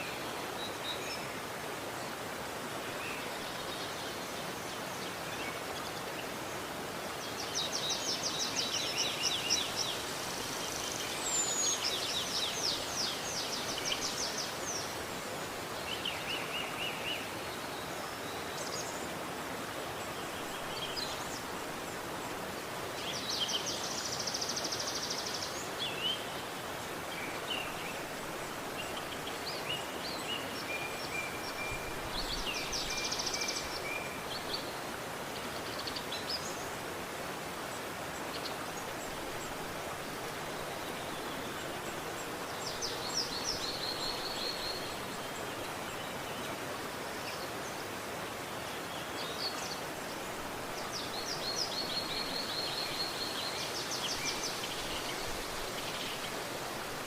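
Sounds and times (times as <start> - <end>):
river water flowing: 0.0 - 57.0
songbirds trilling and chirping: 2.8 - 57.0.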